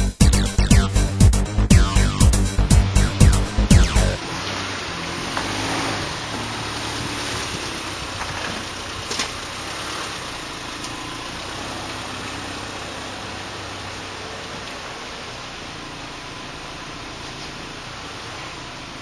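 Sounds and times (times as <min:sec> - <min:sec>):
car engine running low: 0:00.0 - 0:19.0.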